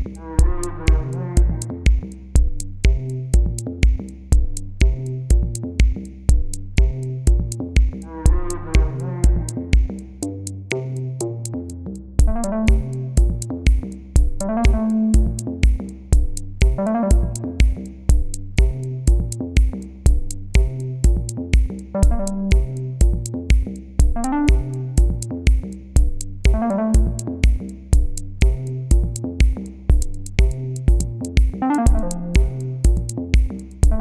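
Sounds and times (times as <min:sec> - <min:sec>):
electronic music: 0:00.0 - 0:02.3, 0:06.8 - 0:10.5, 0:12.2 - 0:34.0.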